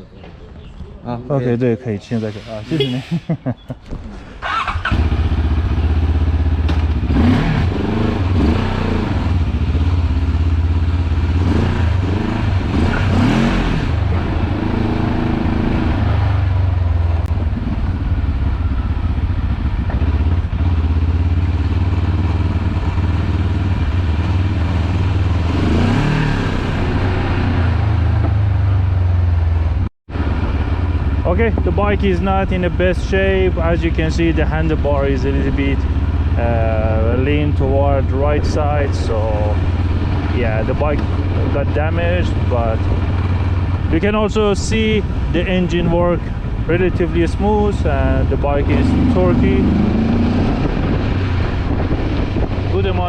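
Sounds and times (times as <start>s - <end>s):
motorcycle engine droning and revving: 3.8s - 53.0s.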